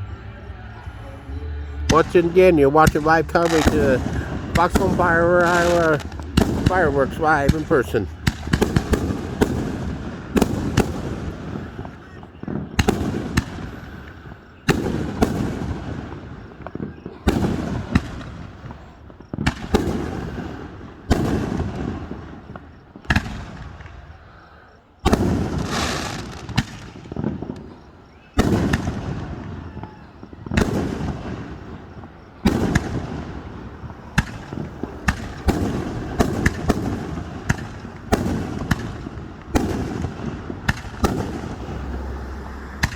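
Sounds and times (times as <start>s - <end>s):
fireworks shells bursting: 0.0s - 24.1s, 25.0s - 42.9s
crackling bangs: 1.7s - 24.2s, 25.0s - 42.9s.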